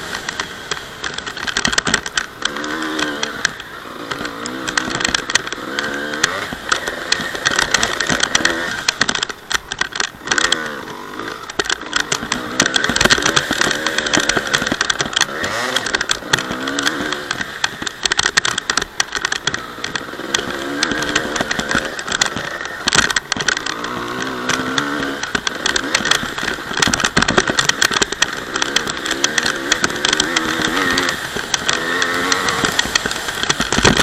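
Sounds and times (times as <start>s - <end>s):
dirt bike engine revving: 0.0s - 34.0s
knocks and crackles: 0.0s - 34.0s.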